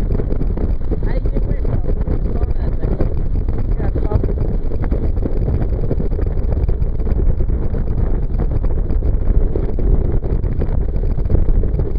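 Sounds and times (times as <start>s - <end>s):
boat rushing across water: 0.0s - 11.9s
wind buffeting microphone: 0.0s - 11.9s.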